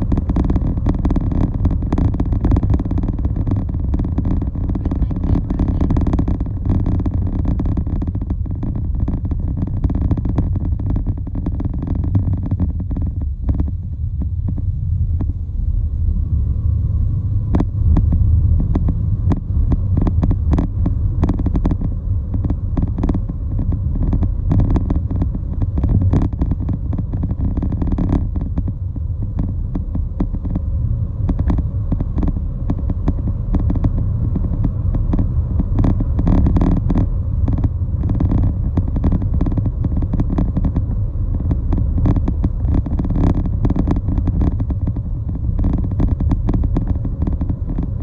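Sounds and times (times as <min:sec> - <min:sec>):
crackles and knocks: 0:00.0 - 0:48.0
road and wind noise: 0:00.0 - 0:48.0.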